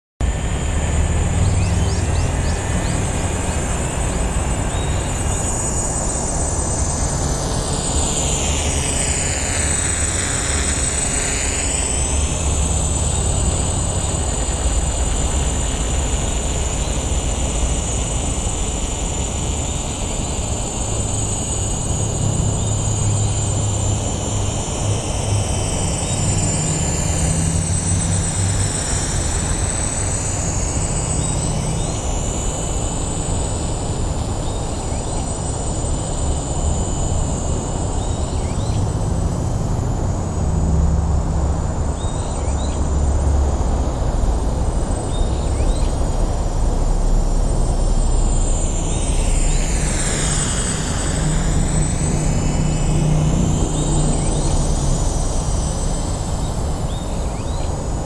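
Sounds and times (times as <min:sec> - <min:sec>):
quadcopter propellers whirring: 0:00.2 - 0:58.0.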